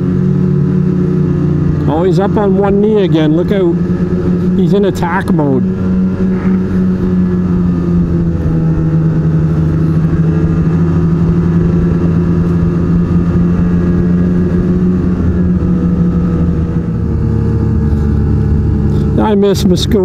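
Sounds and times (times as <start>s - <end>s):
snowmobile engine running: 0.0s - 20.0s.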